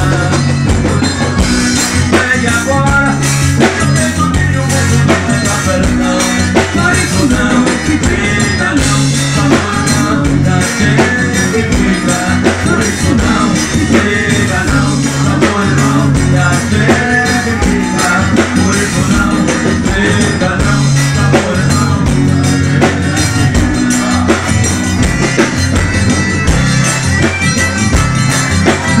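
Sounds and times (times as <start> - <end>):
accordion: 0.0 - 29.0
acoustic guitar: 0.0 - 29.0
drum kit beat: 0.0 - 29.0.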